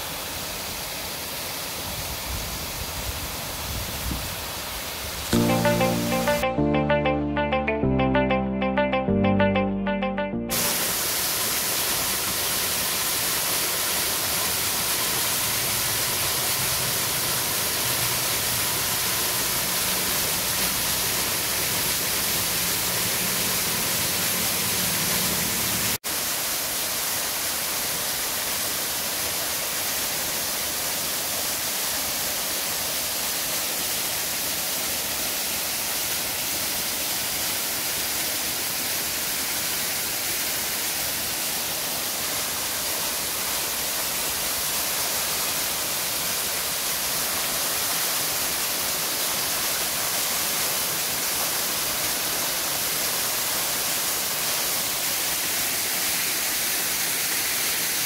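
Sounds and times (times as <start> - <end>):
waterfall splashing into pool: 0.0 - 6.4, 10.5 - 58.0.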